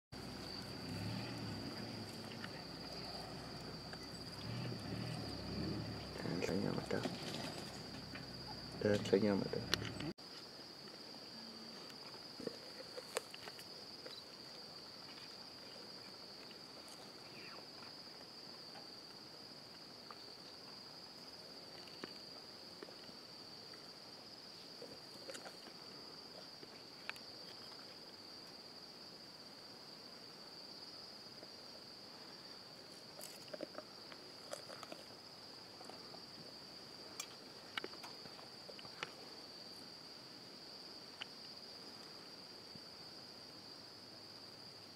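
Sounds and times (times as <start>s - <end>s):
night insects trilling: 0.2s - 44.9s.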